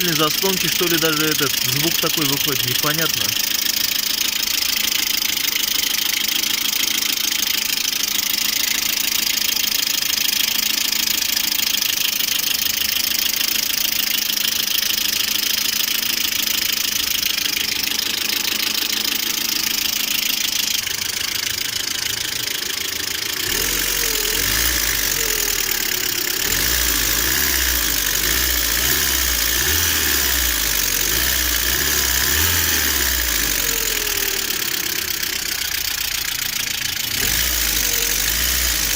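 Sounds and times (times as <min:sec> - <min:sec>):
engine idling with lifter knock: 0:00.0 - 0:38.9.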